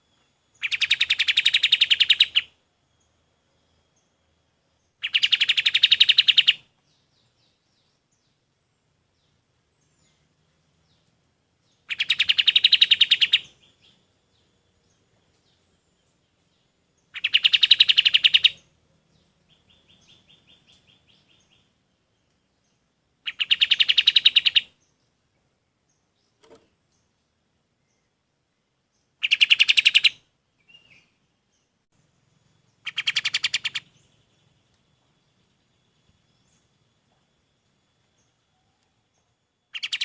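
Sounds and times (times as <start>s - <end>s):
faint bird trill: 0.0s - 8.4s, 11.6s - 25.1s, 28.9s - 40.0s
songbird chirping in bursts: 0.0s - 40.0s.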